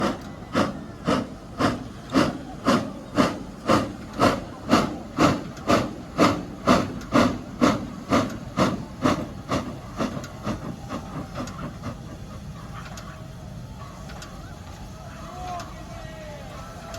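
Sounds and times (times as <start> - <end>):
steam locomotive chuffing: 0.0 - 16.9.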